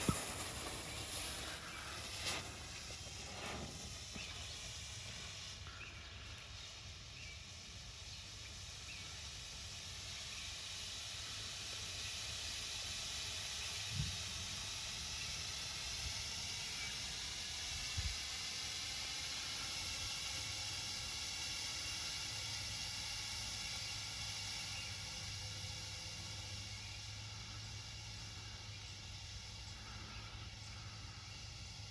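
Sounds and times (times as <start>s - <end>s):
smoke sticks hissing: 0.0s - 31.9s.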